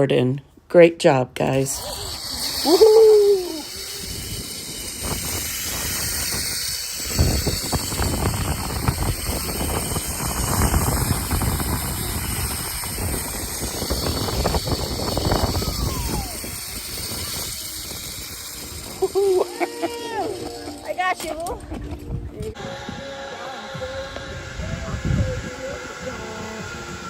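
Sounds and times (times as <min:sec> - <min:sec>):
zipline trolley on cable: 0:01.5 - 0:27.0
wind on microphone: 0:01.8 - 0:20.7, 0:21.4 - 0:27.0.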